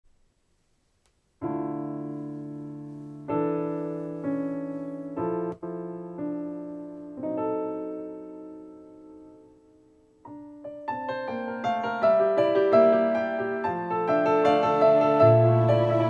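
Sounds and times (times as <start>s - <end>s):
piano chords over loudspeakers: 1.4s - 16.0s.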